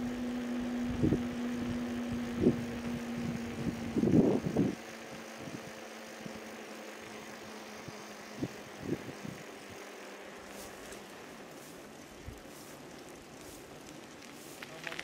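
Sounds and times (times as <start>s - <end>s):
car engine and road noise: 0.0s - 15.0s
faint steady hum: 0.0s - 15.0s.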